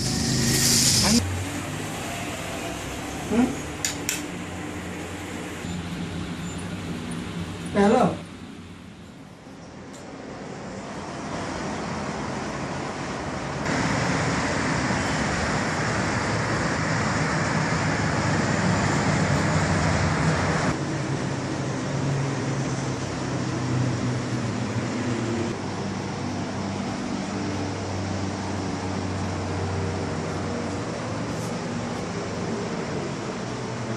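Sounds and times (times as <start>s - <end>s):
distant road traffic rumble: 0.0s - 33.9s.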